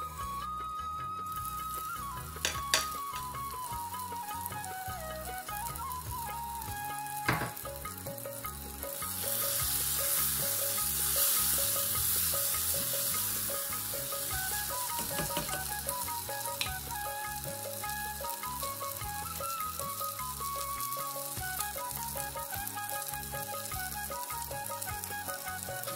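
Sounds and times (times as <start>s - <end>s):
minced chicken sizzling in pan: 1.3s - 25.9s.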